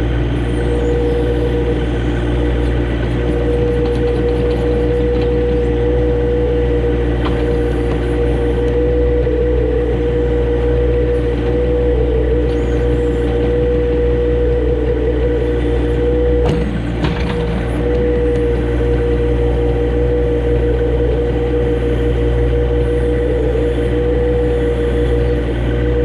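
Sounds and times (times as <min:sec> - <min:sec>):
constant engine whine: 0:00.0 - 0:26.0
tractor engine running: 0:00.0 - 0:26.0.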